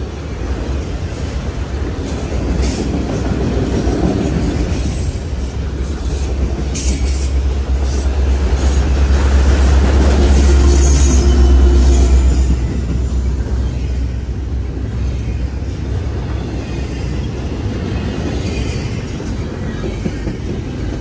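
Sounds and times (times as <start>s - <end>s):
freight train cars rumbling: 0.0s - 21.0s.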